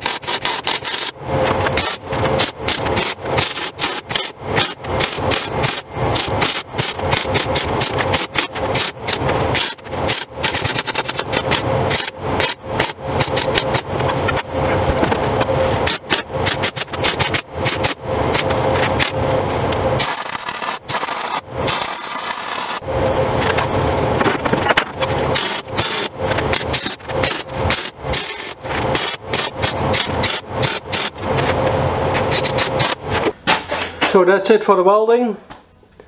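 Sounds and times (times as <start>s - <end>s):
welding arc crackling: 0.0s - 33.4s
steady hum: 0.0s - 36.0s.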